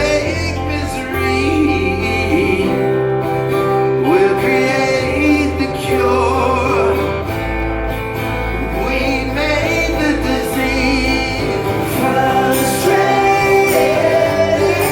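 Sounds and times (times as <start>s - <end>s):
person singing: 0.0s - 7.3s, 8.6s - 14.9s
low bass notes: 0.0s - 14.9s
strummed acoustic guitar: 0.0s - 14.9s.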